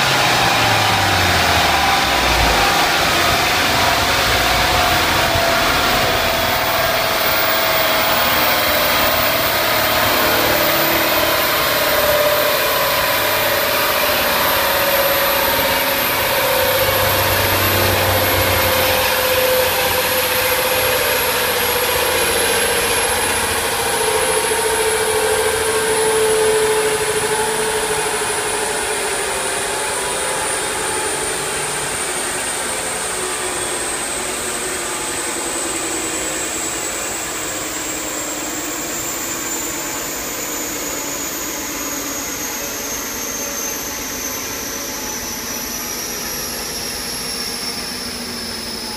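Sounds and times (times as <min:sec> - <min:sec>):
dyno rollers spinning down: 0:00.0 - 0:48.9.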